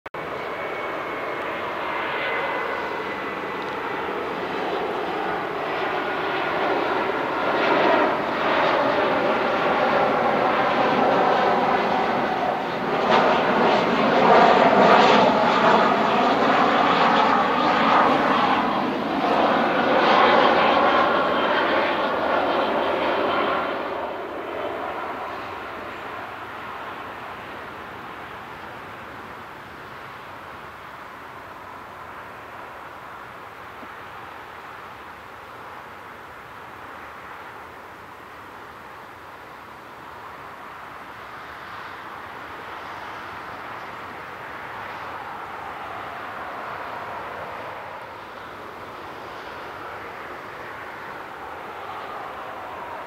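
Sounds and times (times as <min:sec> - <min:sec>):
jet engine roar and whine: 0:00.2 - 0:53.0.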